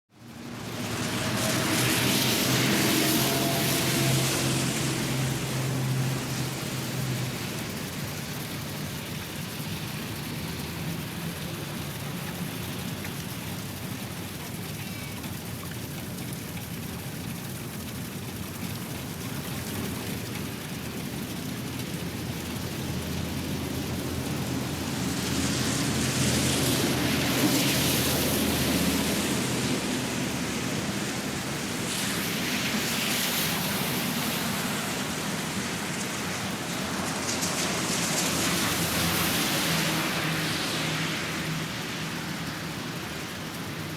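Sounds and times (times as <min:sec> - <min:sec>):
rain falling on pavement: 0:00.1 - 0:43.9
vehicles passing on wet road: 0:00.1 - 0:43.9.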